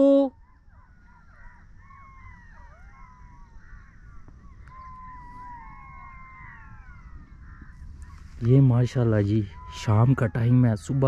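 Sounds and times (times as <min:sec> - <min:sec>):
birds whistling calls: 0:00.0 - 0:11.0.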